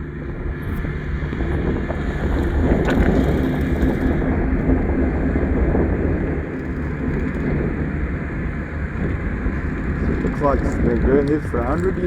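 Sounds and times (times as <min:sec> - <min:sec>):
engine running steadily: 0:00.0 - 0:12.0
wind on microphone: 0:00.0 - 0:12.0.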